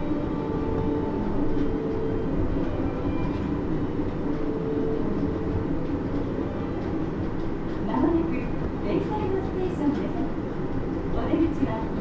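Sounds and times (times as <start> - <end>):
monorail car rumble: 0.0 - 12.0.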